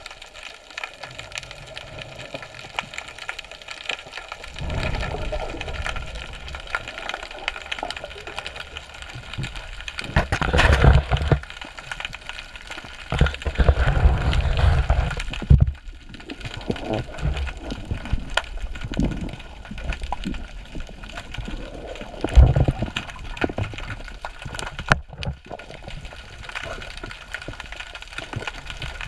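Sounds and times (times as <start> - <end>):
low rushing water: 0.0 - 29.0
underwater clicks crackling: 0.0 - 29.0.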